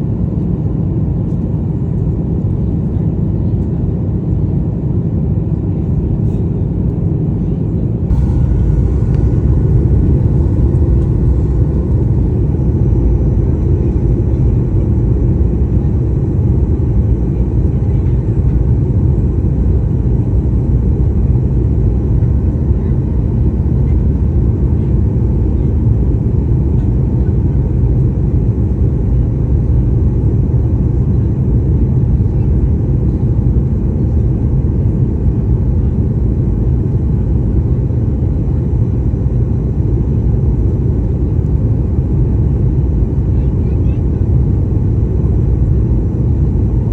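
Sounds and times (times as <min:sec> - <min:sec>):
airliner cabin rumble in flight: 0:00.0 - 0:46.9.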